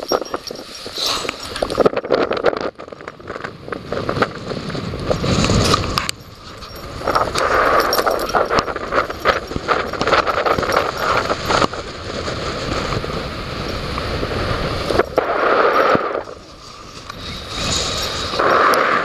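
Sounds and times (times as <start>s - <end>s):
crackling rustles and knocks: 0.0s - 19.0s
wind buffeting microphone: 0.0s - 19.0s.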